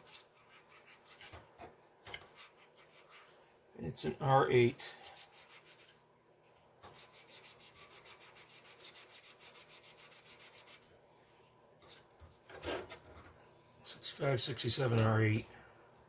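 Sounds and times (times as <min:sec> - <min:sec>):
faint rhythmic rubbing: 0:00.0 - 0:03.6, 0:04.5 - 0:13.8.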